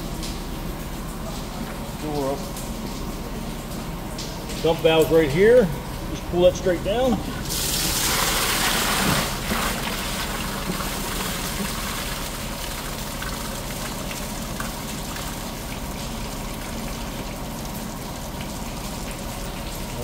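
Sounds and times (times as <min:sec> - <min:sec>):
water gushing onto metal grate: 0:00.0 - 0:20.0.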